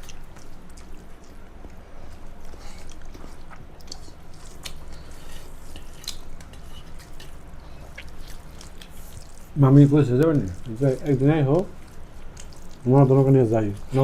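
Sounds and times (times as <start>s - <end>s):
chewing with wet mouth clicks: 0.0s - 14.0s
steady low hum: 0.0s - 14.0s.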